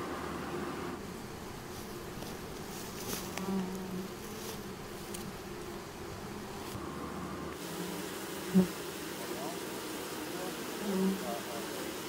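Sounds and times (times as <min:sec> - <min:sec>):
bee passing close: 0:00.0 - 0:12.0
honeybees buzzing: 0:00.0 - 0:12.0.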